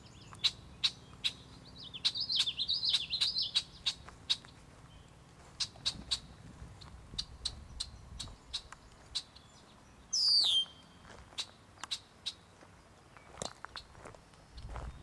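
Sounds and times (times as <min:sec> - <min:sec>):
warbling bird song: 0:00.0 - 0:14.0
songbird chirps: 0:00.0 - 0:15.0.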